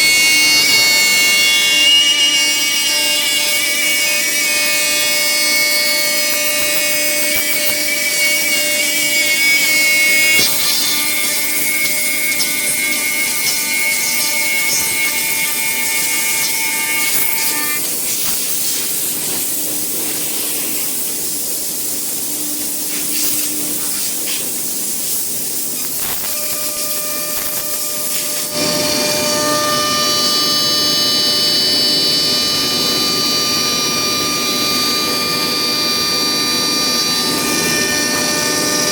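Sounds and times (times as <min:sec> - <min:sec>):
router cutting wood: 0:00.0 - 0:24.2, 0:24.8 - 0:38.9
router spindle high whine: 0:00.0 - 0:38.9.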